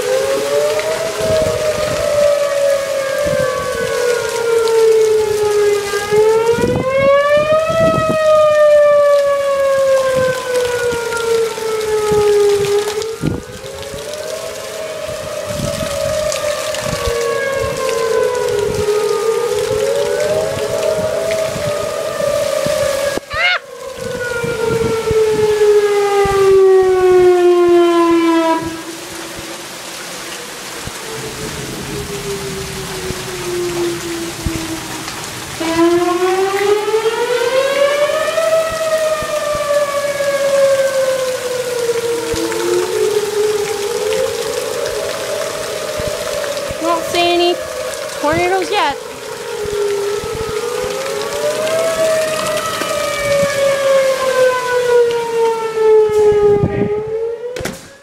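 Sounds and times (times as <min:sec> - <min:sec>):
rain falling: 0:00.0 - 0:58.0
warning siren wailing: 0:00.0 - 0:58.0.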